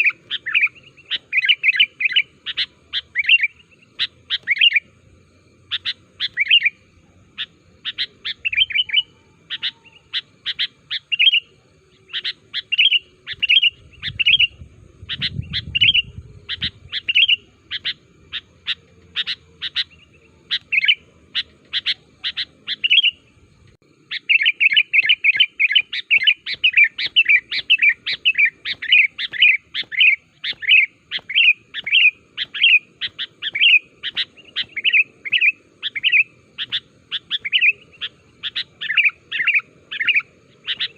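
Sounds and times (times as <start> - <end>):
bulbul chirping: 0.0 - 23.4, 24.0 - 40.9.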